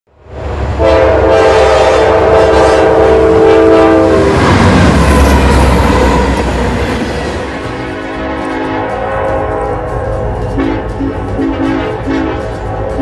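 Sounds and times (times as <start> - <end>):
train rumbling: 0.1 - 13.0
locomotive air horn: 0.8 - 6.6, 7.6 - 13.0.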